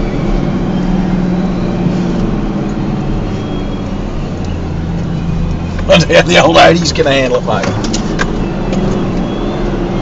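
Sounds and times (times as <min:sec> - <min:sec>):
engine pulling uphill: 0:00.0 - 0:10.0.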